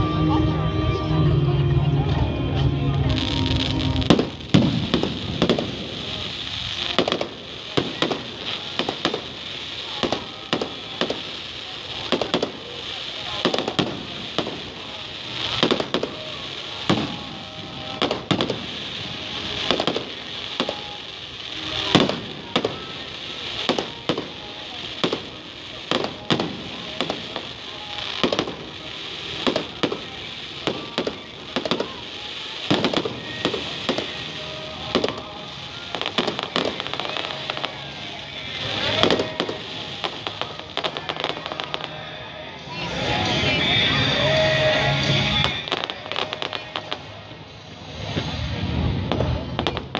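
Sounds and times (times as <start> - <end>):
fireworks bangs: 2.9 - 42.2, 42.9 - 49.9
fireworks hiss: 2.9 - 49.9.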